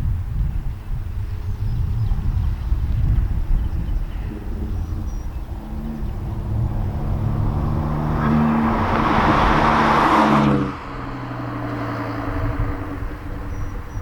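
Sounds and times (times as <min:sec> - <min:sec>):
raspy car exhaust: 0:01.3 - 0:14.0.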